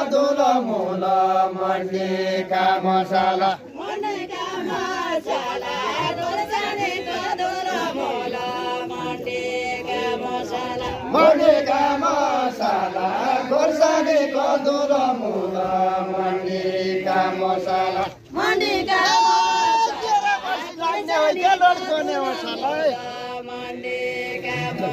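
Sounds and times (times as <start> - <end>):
men singing folk song: 0.0 - 24.9.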